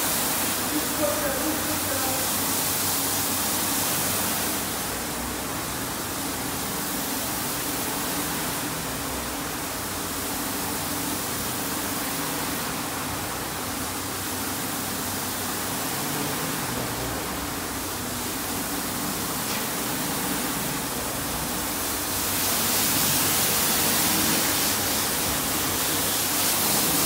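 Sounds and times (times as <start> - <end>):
spraying water and turning brushes: 0.0 - 27.0.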